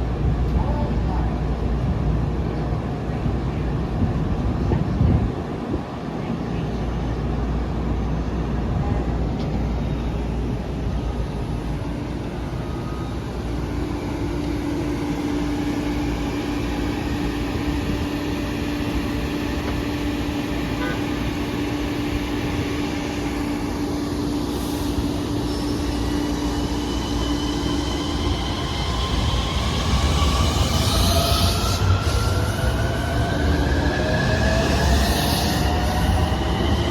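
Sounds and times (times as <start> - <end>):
train rumble with hum: 0.0 - 36.9.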